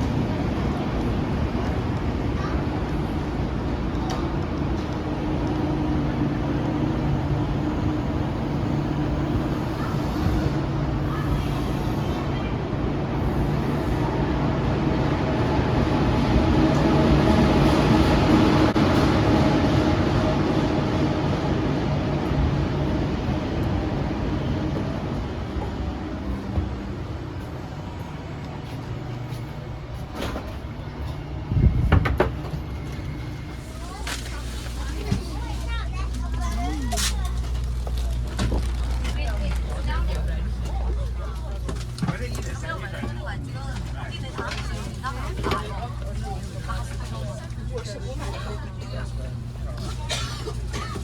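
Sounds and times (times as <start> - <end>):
high-speed train rumbling: 0.0 - 51.0.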